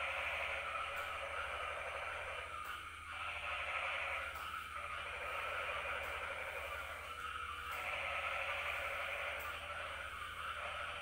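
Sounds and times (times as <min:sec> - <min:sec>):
night animal chorus: 0:00.0 - 0:11.0.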